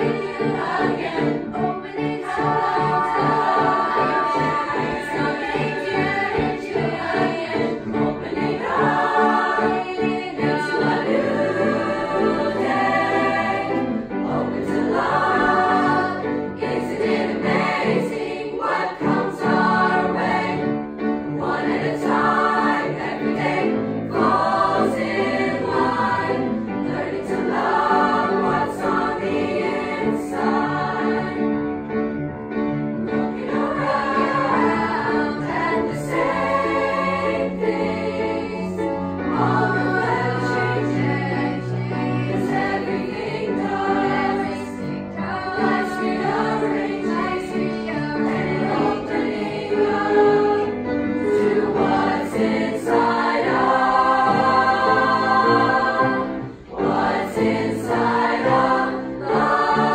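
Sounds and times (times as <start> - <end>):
youth choir singing pop song: 0.0 - 31.9, 33.1 - 59.9
grand piano: 0.0 - 59.9.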